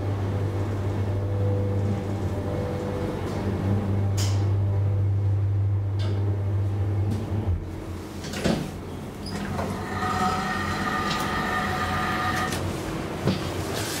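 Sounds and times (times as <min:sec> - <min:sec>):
steady whine: 0:00.0 - 0:08.2, 0:08.8 - 0:13.2
elevator pump motor hum: 0:00.0 - 0:14.0.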